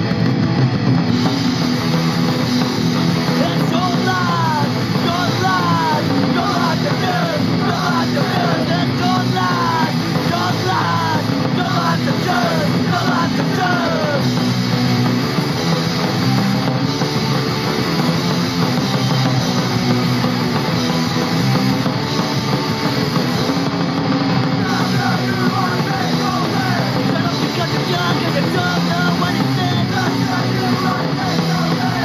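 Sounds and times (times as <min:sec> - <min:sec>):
punk song from vinyl record: 0:00.0 - 0:32.0.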